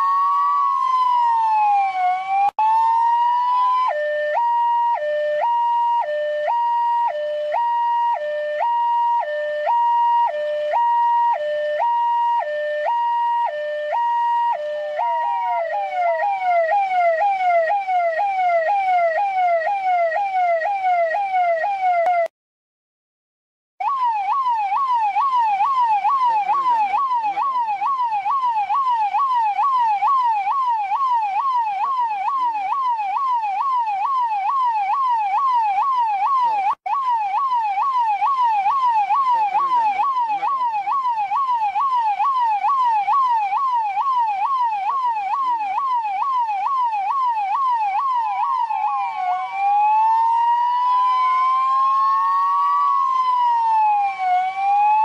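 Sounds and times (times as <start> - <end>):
police siren yelping: 0.0 - 22.3, 23.8 - 55.0.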